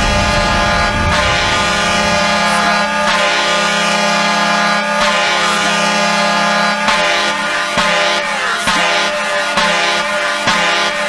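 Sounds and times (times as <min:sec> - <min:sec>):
goal horn blast: 0:00.0 - 0:11.0.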